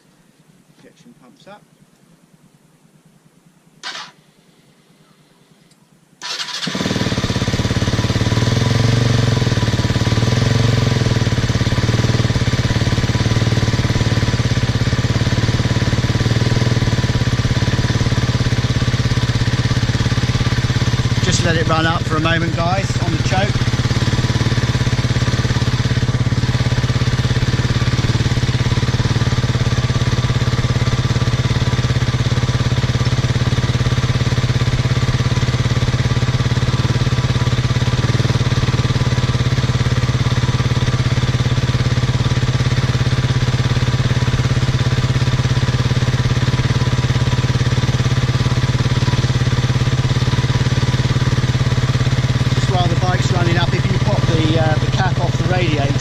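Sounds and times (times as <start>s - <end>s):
motorcycle engine idling: 1.7s - 5.4s, 6.2s - 56.0s.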